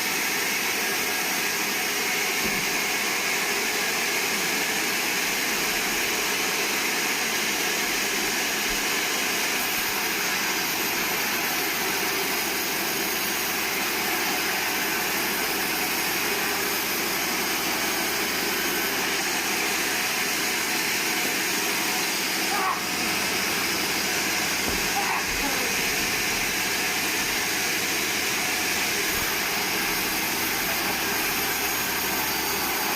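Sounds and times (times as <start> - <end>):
band sawmill running: 0.0 - 32.9.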